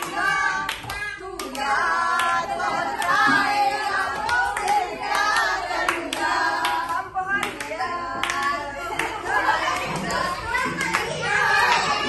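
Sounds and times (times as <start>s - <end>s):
people clapping in time: 0.0s - 12.0s
women singing together: 0.0s - 12.0s.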